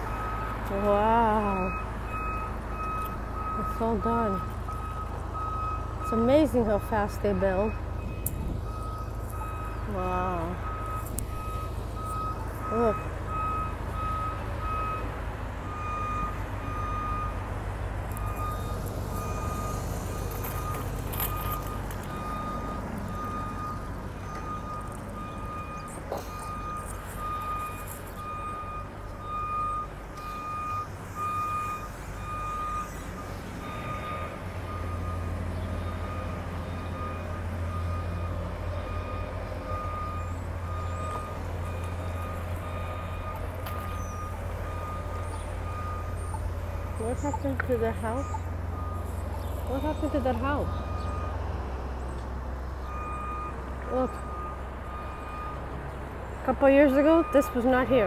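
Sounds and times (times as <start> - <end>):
reversing alarm beeping: 0.0 - 17.4, 18.1 - 51.4, 52.8 - 55.8, 56.4 - 58.0
low rumble of traffic: 0.0 - 58.0.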